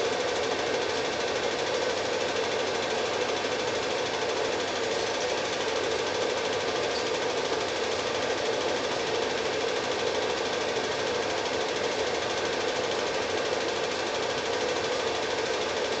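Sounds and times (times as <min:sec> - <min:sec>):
film projector clattering: 0:00.0 - 0:16.0.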